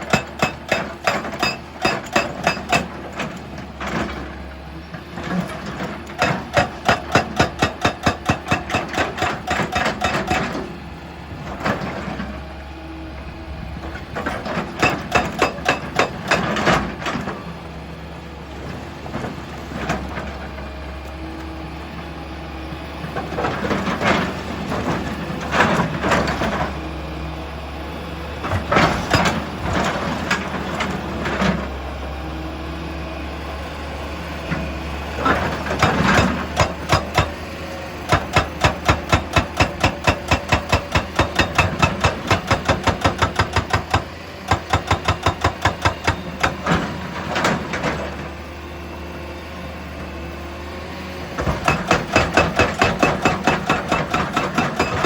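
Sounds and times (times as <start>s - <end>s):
heavy machinery engine hum: 0.0s - 55.0s.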